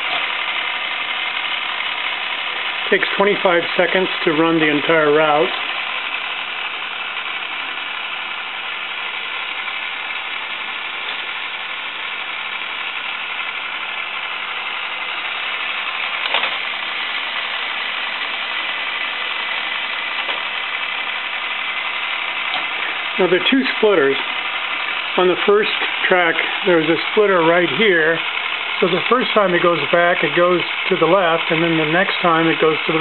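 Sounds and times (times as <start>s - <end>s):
ball bearings rolling on rails: 0.0s - 33.0s
motor whirring: 0.0s - 33.0s.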